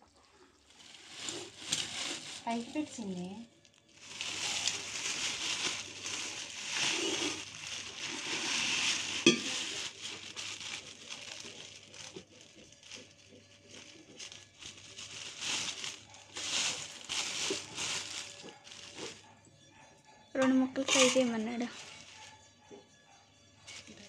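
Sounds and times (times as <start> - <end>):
plastic bag rustling: 0.3 - 19.4, 20.8 - 22.4, 23.7 - 24.0.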